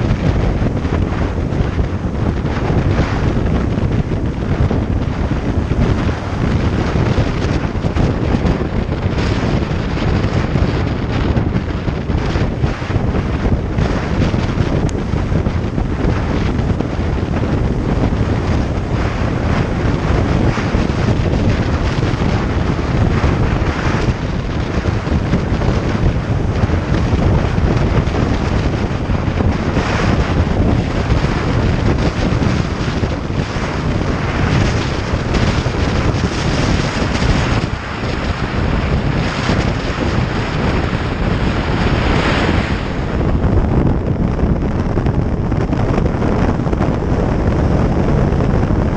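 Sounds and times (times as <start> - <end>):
road noise: 0.0 - 48.9
wind buffeting microphone: 0.0 - 48.9.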